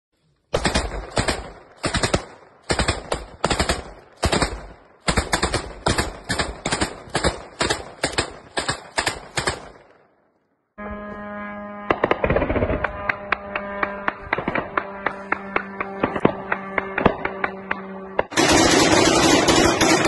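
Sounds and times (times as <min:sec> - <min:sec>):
anti-aircraft gun bursts: 0:00.5 - 0:09.9, 0:11.8 - 0:20.0
gunfire echo: 0:00.5 - 0:10.2, 0:11.8 - 0:20.0.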